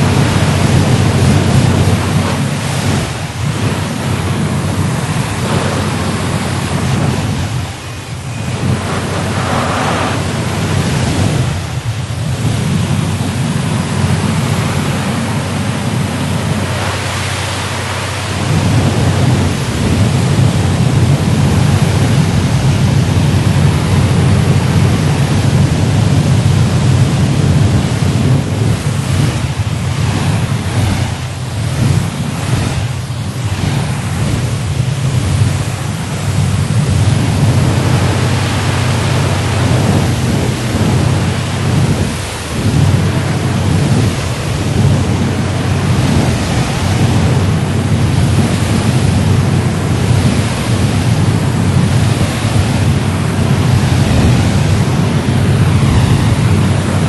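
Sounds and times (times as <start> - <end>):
car wash machinery rumbling: 0.0 - 57.0
spraying water: 0.0 - 57.0.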